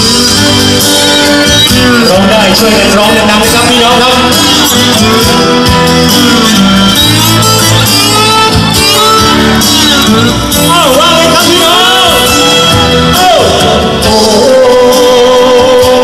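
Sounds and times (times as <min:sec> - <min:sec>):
live band music: 0:00.0 - 0:16.0
person singing into microphone: 0:00.0 - 0:16.0.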